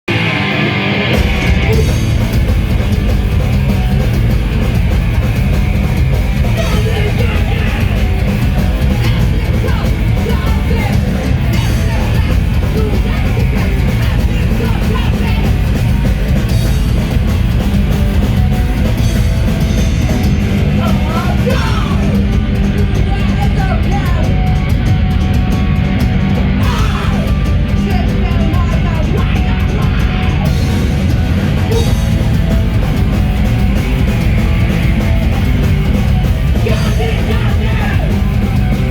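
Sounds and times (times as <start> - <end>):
heavy rock band music: 0.0 - 38.9.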